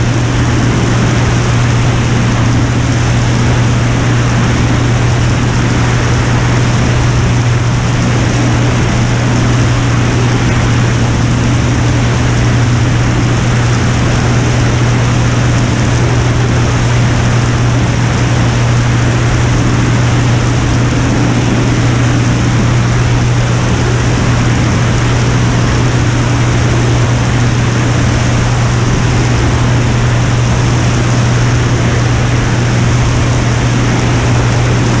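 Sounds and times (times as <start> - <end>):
aircraft engine droning: 0.0 - 35.0
rushing air noise: 0.0 - 35.0.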